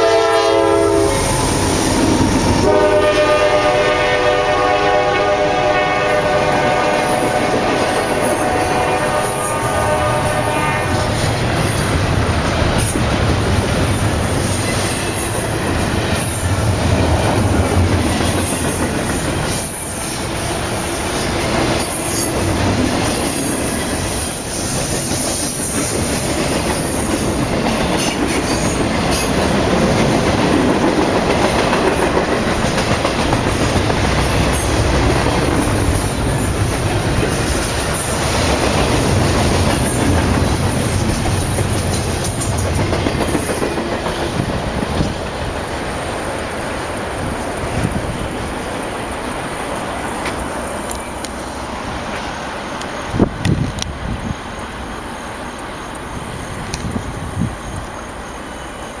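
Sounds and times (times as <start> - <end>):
freight train wheels rumbling on rails: 0.0 - 59.0
rail cars clattering: 0.0 - 59.0.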